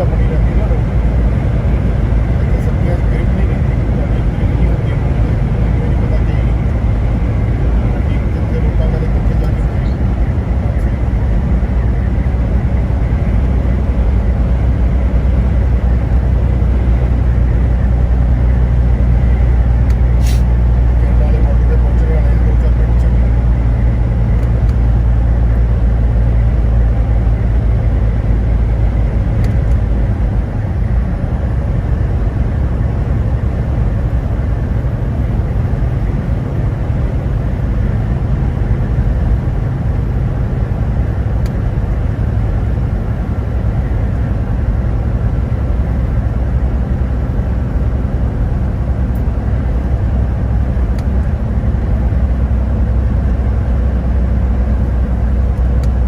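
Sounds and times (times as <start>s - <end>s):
vehicle driving rumble: 0.0s - 56.0s.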